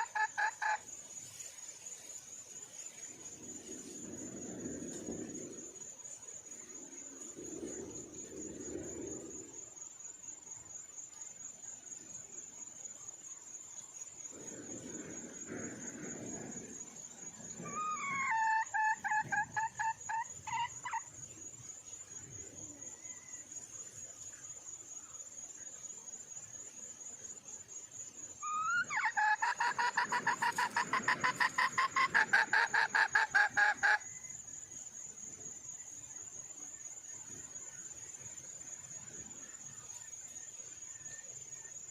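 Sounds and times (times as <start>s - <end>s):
cricket trilling: 0.0s - 41.9s.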